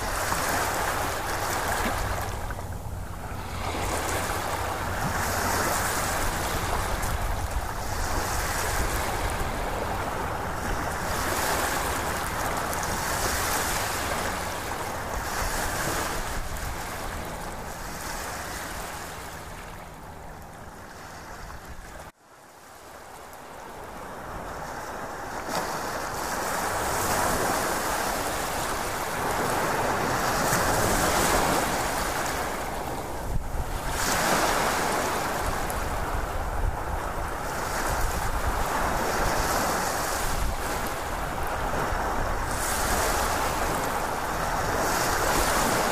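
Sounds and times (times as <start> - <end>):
ocean waves washing in: 0.0 - 45.9.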